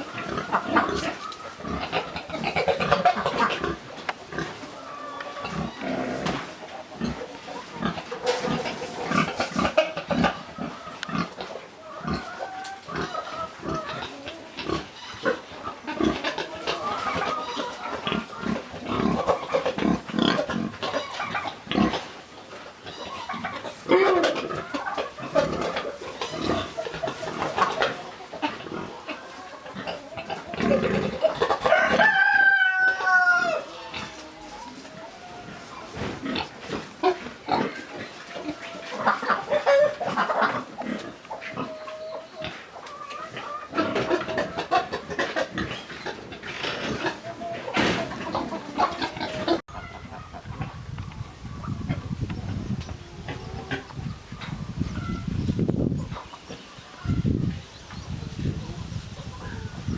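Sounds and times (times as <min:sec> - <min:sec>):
pigs grunting and squealing: 0:00.0 - 0:50.1.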